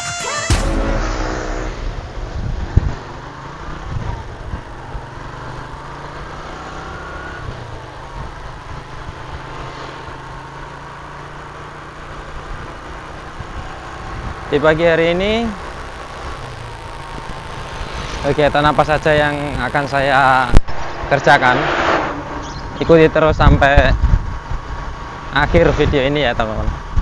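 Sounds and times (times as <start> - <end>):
vehicle engine running: 0.6 - 27.0
road and wind noise: 0.7 - 27.0.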